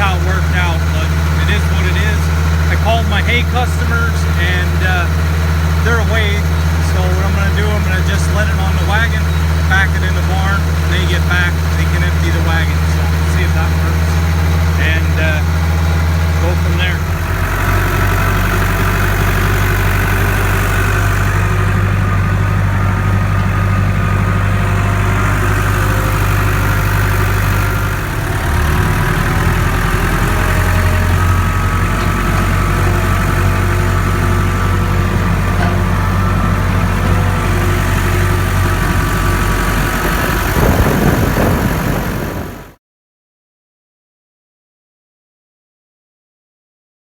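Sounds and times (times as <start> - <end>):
tractor engine idling: 0.0 - 42.7.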